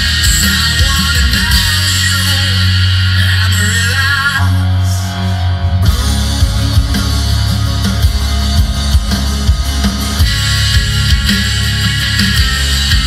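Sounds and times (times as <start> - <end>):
drums: 0.0 - 13.0
rock music with electric guitar: 0.0 - 13.0.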